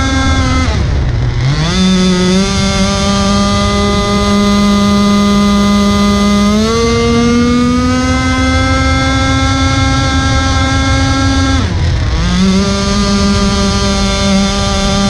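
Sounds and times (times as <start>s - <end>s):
model boat engine revving: 0.0s - 15.0s.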